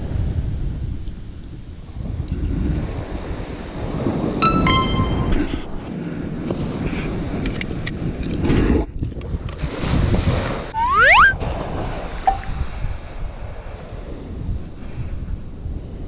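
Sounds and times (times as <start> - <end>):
wind buffeting microphone: 0.0 - 4.4, 5.4 - 16.0.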